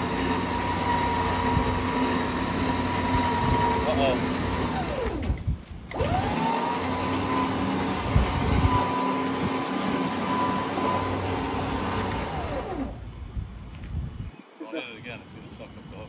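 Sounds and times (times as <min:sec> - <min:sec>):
lawn tractor engine whining: 0:00.0 - 0:13.3.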